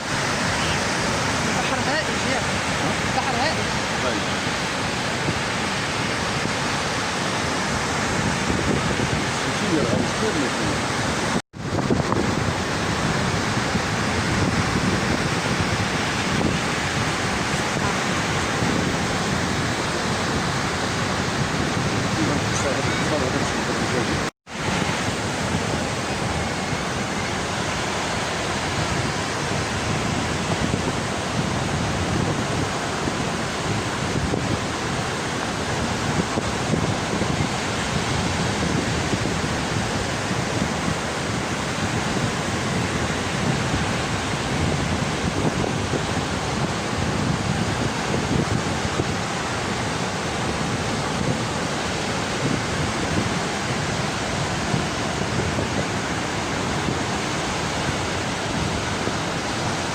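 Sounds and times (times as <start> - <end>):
sea surf washing onto beach: 0.0 - 59.9.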